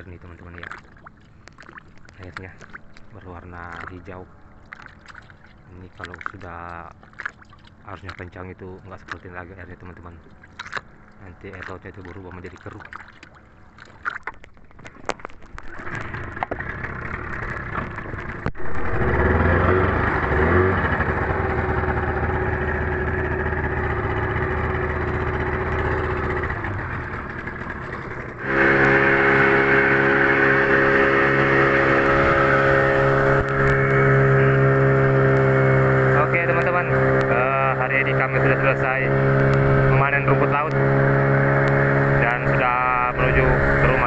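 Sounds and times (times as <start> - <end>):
small boat engine running: 0.0 - 44.0.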